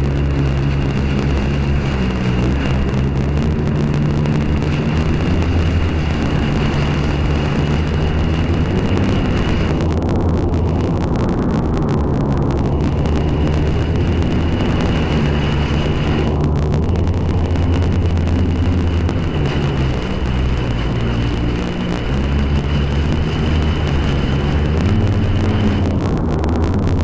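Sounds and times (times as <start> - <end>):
steady high whine: 0.0 - 27.0
watercraft engine running: 0.0 - 27.0
wind and water noise: 0.0 - 27.0.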